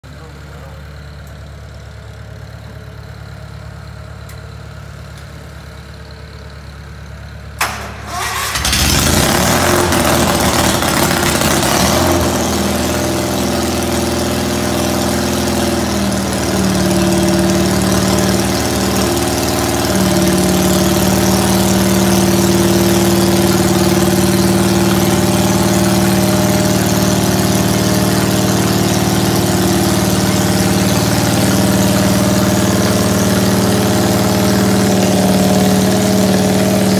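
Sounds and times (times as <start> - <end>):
crawler tractor engine running: 0.0 - 36.9.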